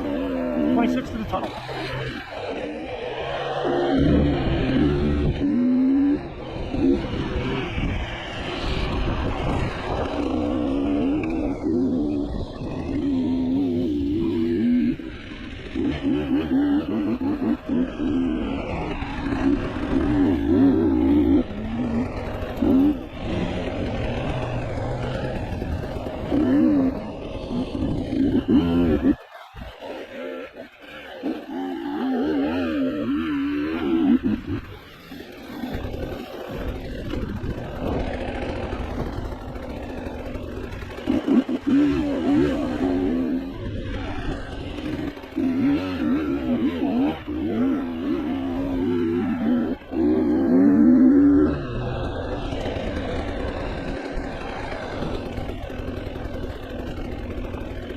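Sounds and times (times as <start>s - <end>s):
off-road vehicle engine revving: 0.0s - 57.9s.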